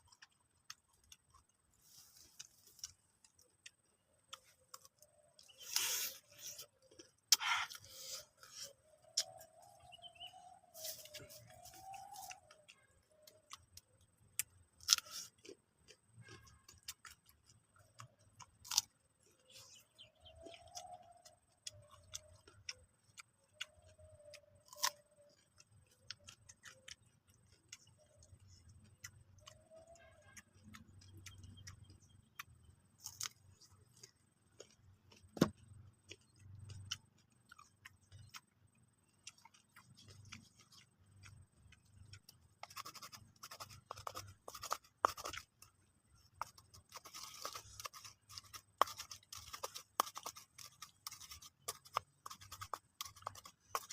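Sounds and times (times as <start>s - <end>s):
crunchy chewing: 0.0s - 53.9s.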